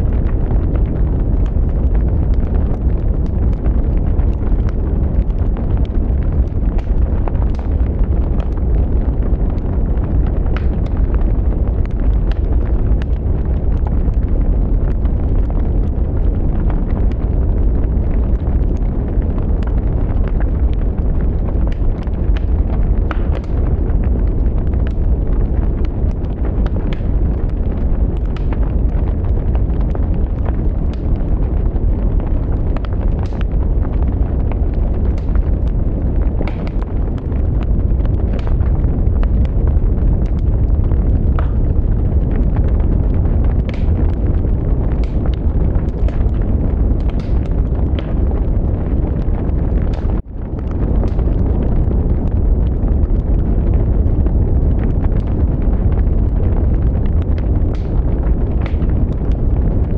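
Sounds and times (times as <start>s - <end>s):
fire crackling and popping: 0.0s - 59.9s
fire rumbling: 0.0s - 59.9s.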